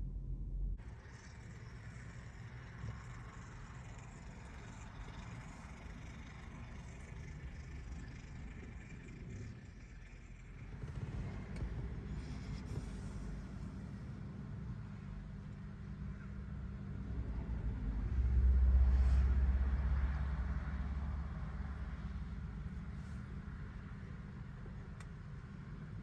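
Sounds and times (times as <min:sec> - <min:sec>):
engine low rumble: 0:00.0 - 0:26.0.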